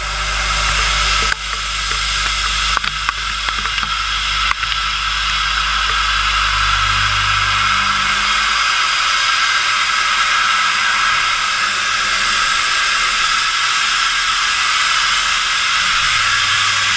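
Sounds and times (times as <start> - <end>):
machine steady hiss: 0.0 - 16.9.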